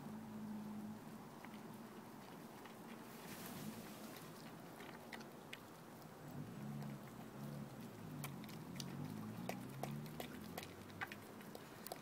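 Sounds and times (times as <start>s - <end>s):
dog chewing and crunching: 1.4s - 12.0s.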